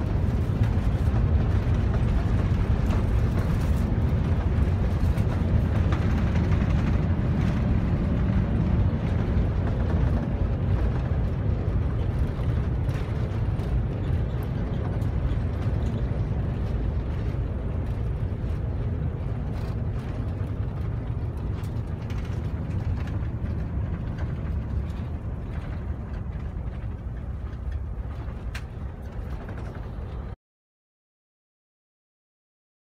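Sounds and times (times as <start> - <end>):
aircraft cabin engine rush: 0.0 - 30.4.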